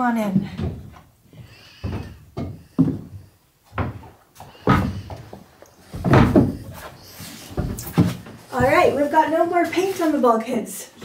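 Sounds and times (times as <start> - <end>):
footsteps on wooden steps: 0.2 - 10.2.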